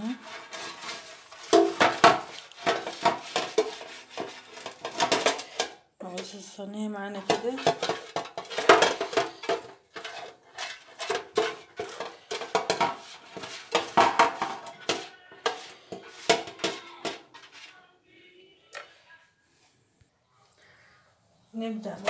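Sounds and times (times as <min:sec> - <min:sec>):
brush scraping foil tray: 0:00.0 - 0:17.9.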